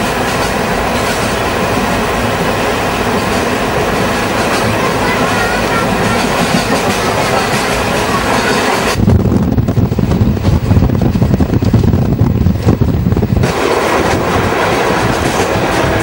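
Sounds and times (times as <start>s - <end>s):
moving passenger train: 0.0s - 16.0s
wind buffeting microphone: 0.0s - 16.0s.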